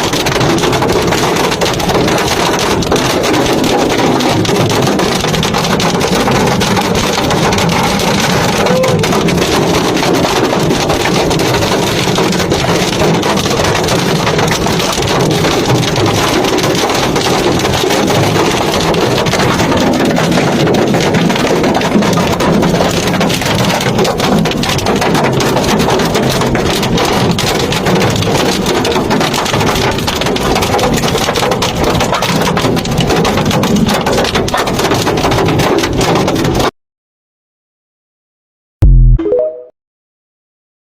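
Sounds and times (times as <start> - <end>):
hail and rain clattering: 0.0 - 36.7.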